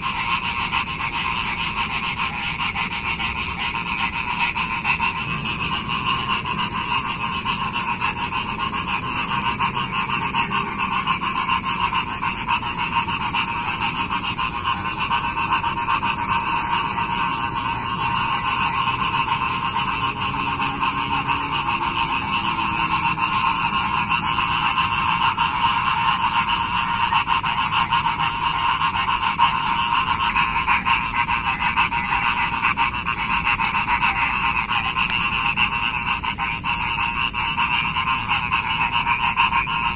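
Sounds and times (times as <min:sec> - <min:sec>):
chorus of frogs calling: 0:00.0 - 0:39.9
steady high-pitched tone: 0:00.0 - 0:39.9.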